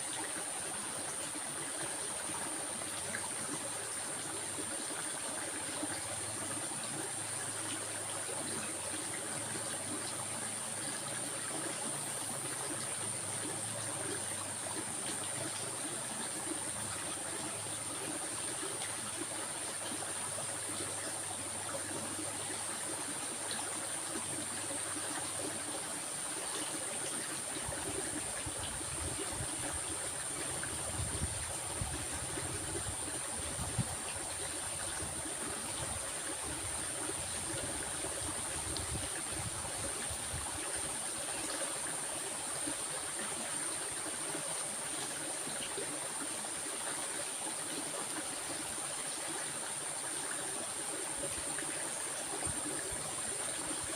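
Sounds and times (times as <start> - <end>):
stream water flowing: 0.0 - 53.9.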